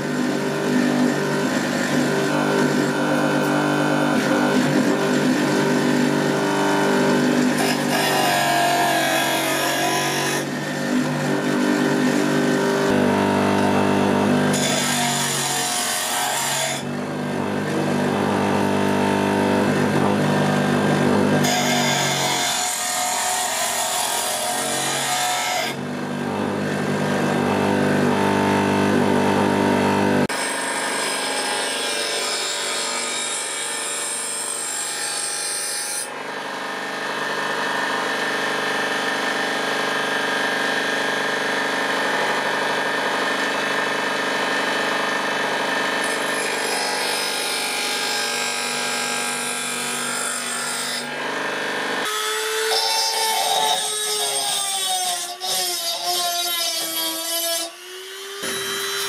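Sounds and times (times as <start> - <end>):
bench grinder motor hum: 0.0 - 34.8, 35.9 - 59.0.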